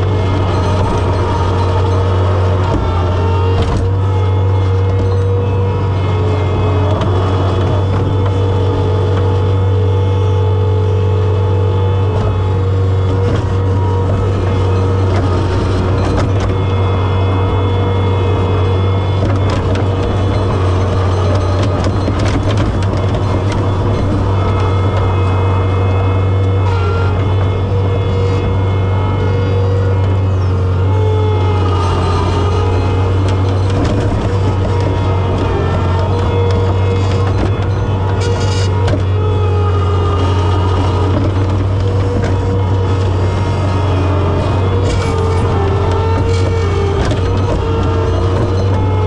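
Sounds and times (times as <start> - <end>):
loader knocks: 0.0 - 10.2, 12.0 - 49.0
skid steer engine running: 0.0 - 49.0.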